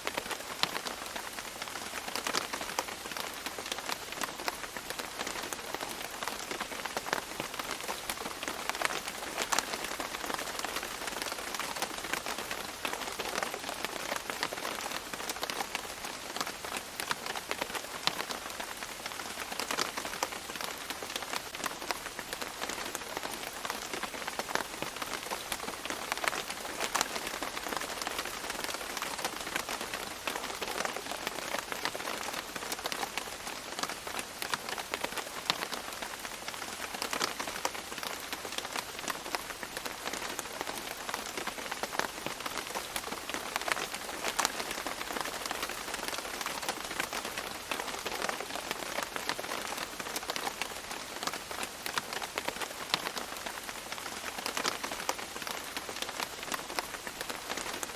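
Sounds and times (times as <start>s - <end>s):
rain pattering on leaves: 0.0s - 57.9s
raindrops striking close by: 0.0s - 57.9s.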